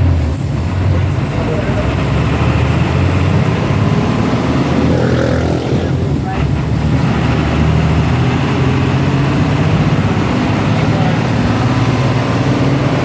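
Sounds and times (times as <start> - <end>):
bus engine running: 0.0 - 13.0
road noise hiss: 0.0 - 13.0.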